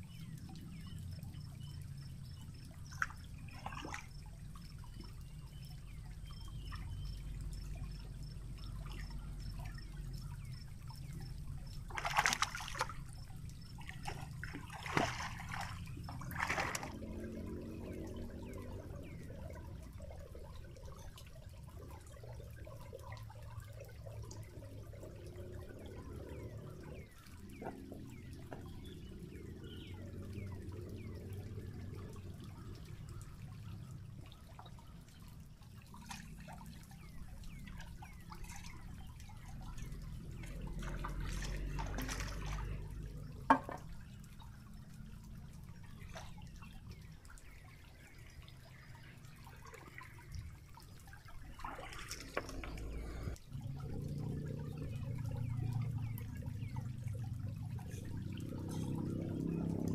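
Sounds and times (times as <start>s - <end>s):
small splashes: 0.0s - 59.9s
stream water trickling: 0.0s - 59.9s.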